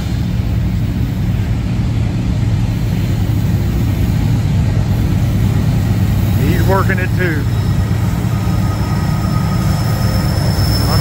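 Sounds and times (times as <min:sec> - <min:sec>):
boxcars rumbling on rails: 0:00.0 - 0:11.0
diesel locomotive engine drone: 0:00.0 - 0:11.0.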